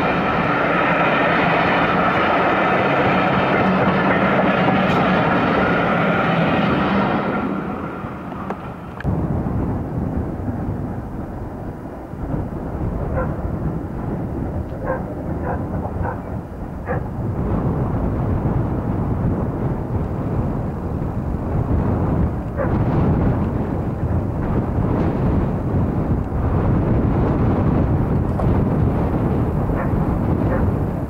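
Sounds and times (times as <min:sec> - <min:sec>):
train wheels on track: 0:00.0 - 0:09.1, 0:11.8 - 0:31.0
wind rumble on microphone: 0:00.0 - 0:31.0.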